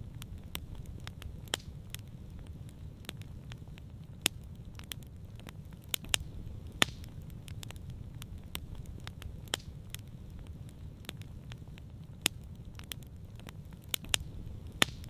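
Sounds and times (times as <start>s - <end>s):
campfire crackling and popping: 0.0s - 15.0s
steady low rumble: 0.0s - 15.0s.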